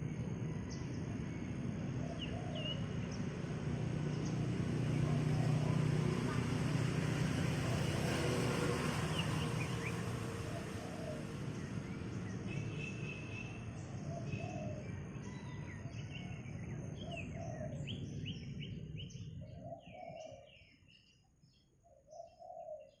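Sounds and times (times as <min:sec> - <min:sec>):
birds chirping: 0:00.0 - 0:08.0, 0:08.9 - 0:23.0.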